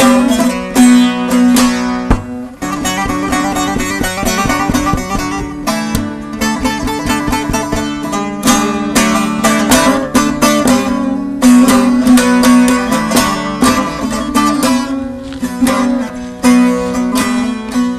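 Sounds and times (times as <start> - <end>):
plucked long-necked lute melody: 0.0 - 17.9.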